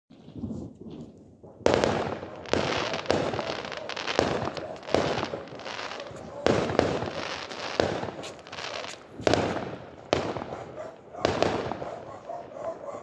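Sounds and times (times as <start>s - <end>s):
fireworks bangs: 0.1s - 12.8s.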